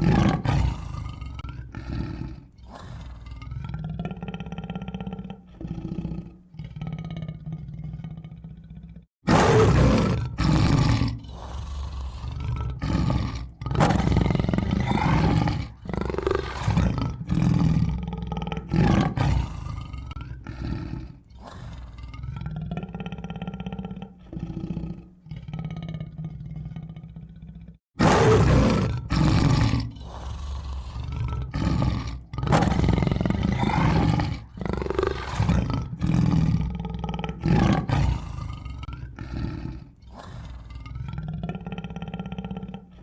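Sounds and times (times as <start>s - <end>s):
tiger growling: 0.0s - 43.0s
tiger roaring: 0.0s - 43.0s.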